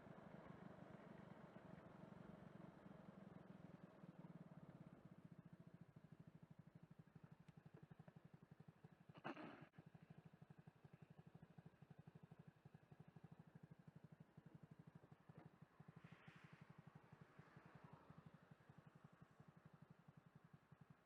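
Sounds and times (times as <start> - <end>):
faint engine idling: 0.0 - 21.0.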